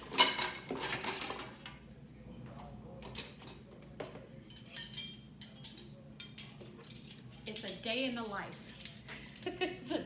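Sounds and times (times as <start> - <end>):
dishes and cutlery clinking: 0.0 - 1.7, 3.0 - 9.6.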